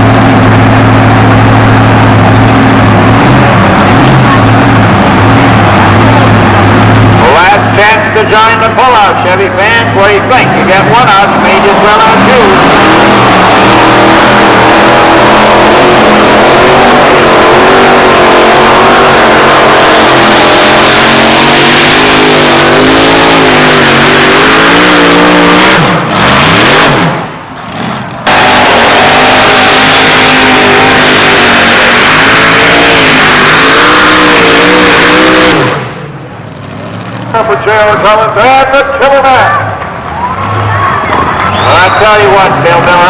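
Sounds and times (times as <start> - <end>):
truck engine revving under load: 0.0 - 38.4.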